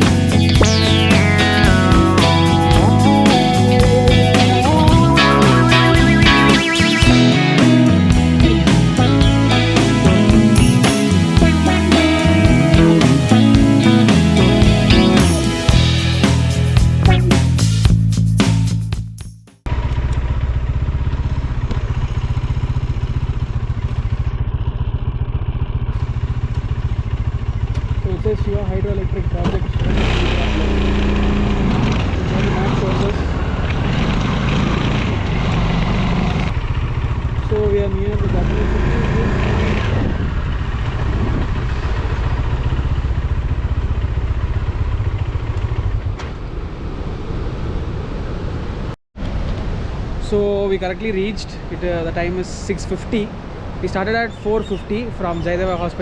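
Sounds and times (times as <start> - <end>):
road and wind noise: 0.0 - 17.6, 19.7 - 56.0
motorcycle engine running: 0.0 - 18.1, 19.0 - 46.6.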